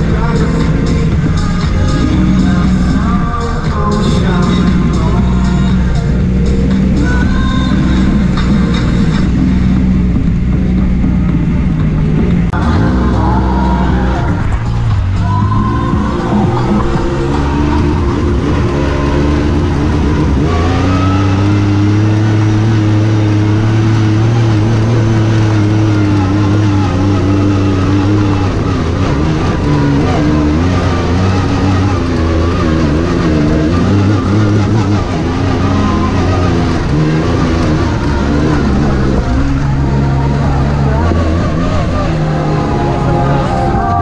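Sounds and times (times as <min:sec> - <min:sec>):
utility vehicle engine under load: 0:00.0 - 0:44.0.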